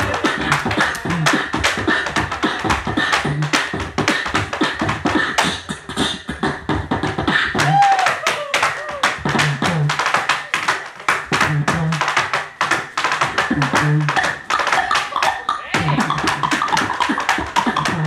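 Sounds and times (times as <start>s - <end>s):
beatboxing through a microphone: 0.0s - 10.5s, 11.2s - 18.0s
tap-dance steps on a board: 0.0s - 18.0s.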